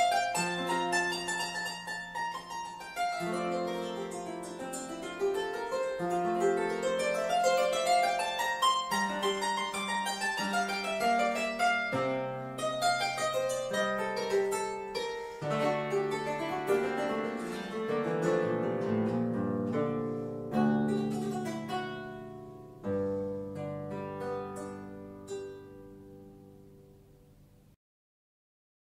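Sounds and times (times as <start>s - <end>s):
harp plucked: 0.0s - 27.7s.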